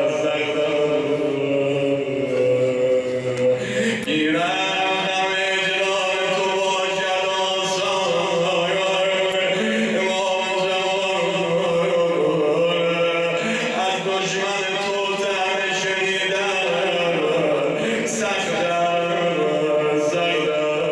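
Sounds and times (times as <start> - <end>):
man chanting devotional poetry: 0.0 - 20.9.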